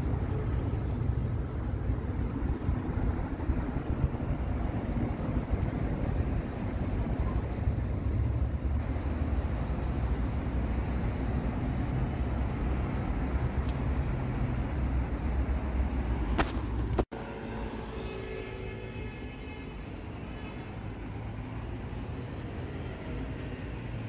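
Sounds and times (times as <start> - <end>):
low rumble of outdoor noise: 0.0 - 24.0.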